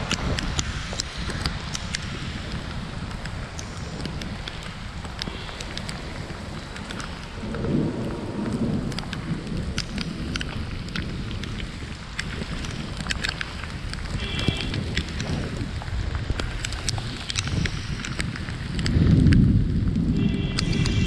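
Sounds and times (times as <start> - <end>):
heavy rain hiss: 0.0 - 21.0
low rumble: 0.0 - 21.0
raindrop clicks: 0.0 - 21.0.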